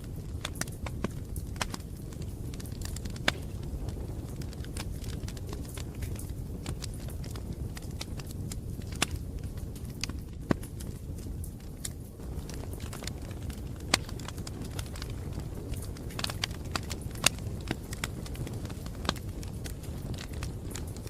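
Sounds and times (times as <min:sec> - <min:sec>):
burning wood snapping and popping: 0:00.0 - 0:21.0
low rumble of flames: 0:00.0 - 0:21.0.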